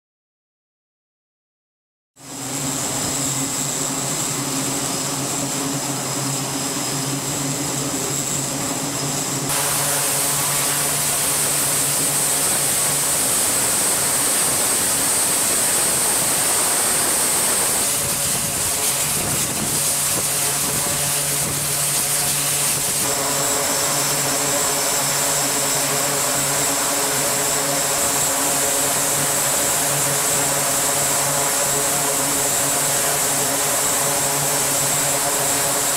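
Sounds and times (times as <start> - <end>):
aircraft turbine whine: 2.2 - 35.9
low propeller hum: 2.2 - 35.9.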